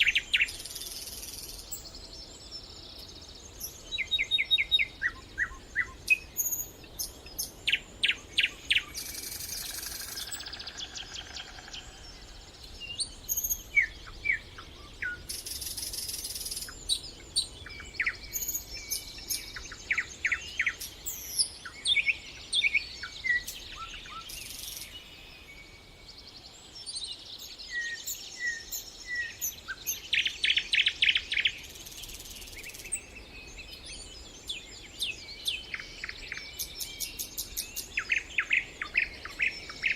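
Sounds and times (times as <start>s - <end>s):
songbirds singing and trilling: 0.0s - 39.9s.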